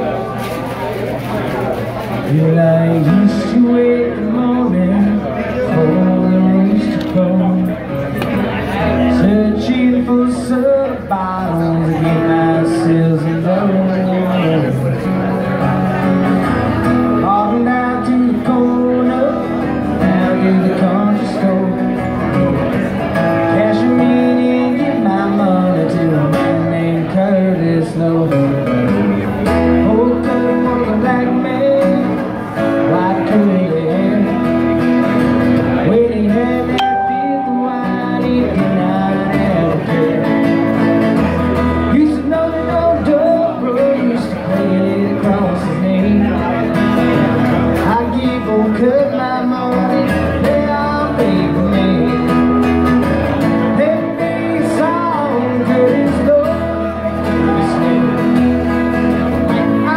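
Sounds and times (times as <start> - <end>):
man singing: 2.3 - 8.0, 8.8 - 14.9, 17.2 - 22.3, 23.3 - 34.9, 35.6 - 40.8, 41.8 - 52.6, 53.4 - 59.9
acoustic guitar strumming: 2.3 - 59.9.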